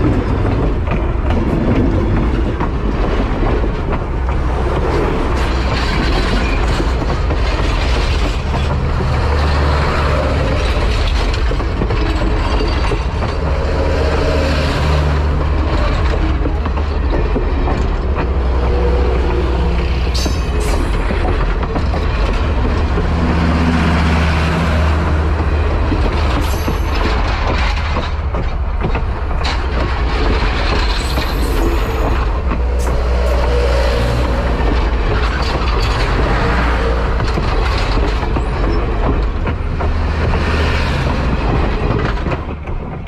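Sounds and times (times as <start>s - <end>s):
train coaches rumbling past: 0.0s - 43.0s
wheels clicking over rails: 0.0s - 43.0s.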